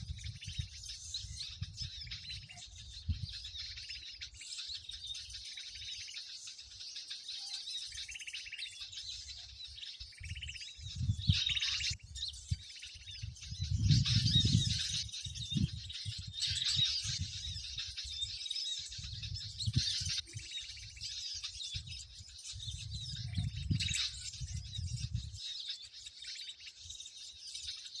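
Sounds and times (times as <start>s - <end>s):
small birds chirping in chorus: 0.0s - 28.0s.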